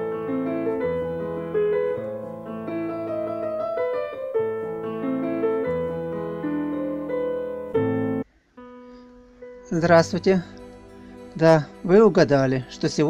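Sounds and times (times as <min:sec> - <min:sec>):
held low keyboard notes: 0:00.0 - 0:13.0
keyboard melody: 0:00.0 - 0:13.0.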